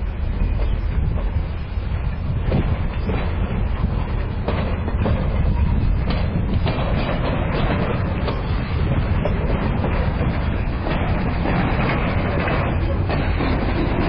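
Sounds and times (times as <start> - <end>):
low rumble of rolling train: 0.0 - 14.0
train wheels clicking over rail joints: 0.0 - 14.0.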